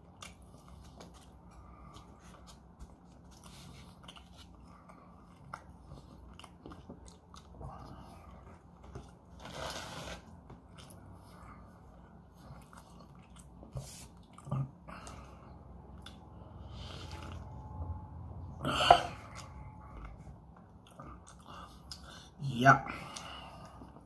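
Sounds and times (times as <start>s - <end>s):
person chewing food: 0.0s - 22.4s.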